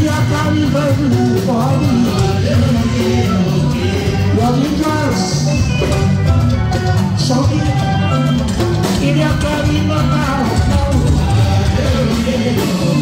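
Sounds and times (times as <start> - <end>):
electric guitars: 0.0 - 13.0
person singing into a microphone: 0.0 - 13.0
talking drums: 0.0 - 13.0.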